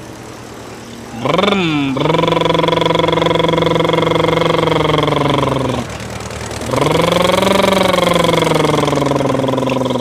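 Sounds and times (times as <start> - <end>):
man imitating engine with voice: 1.1 - 10.0.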